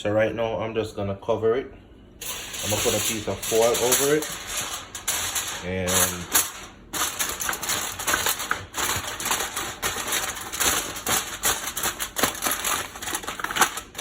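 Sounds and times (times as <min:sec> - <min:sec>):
aluminium foil crinkling: 0:02.2 - 0:14.0.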